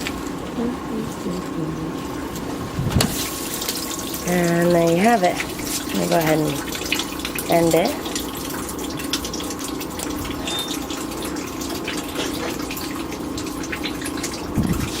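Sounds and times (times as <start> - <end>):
wash pump motor humming: 0.0 - 15.0
water spraying and splashing: 2.4 - 15.0.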